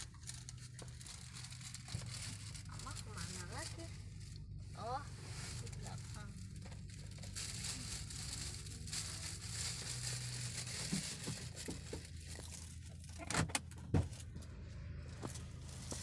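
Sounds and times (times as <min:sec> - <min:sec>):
rustling: 0:00.0 - 0:13.2
road and engine rumble in car: 0:00.0 - 0:16.0.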